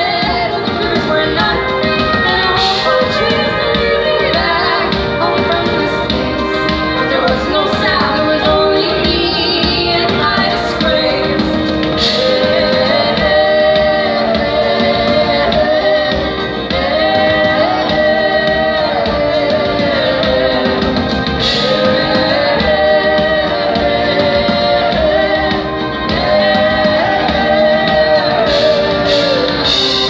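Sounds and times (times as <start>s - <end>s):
acoustic and electric guitars: 0.0s - 30.0s
drums: 0.0s - 30.0s
women singing in harmony: 0.0s - 30.0s.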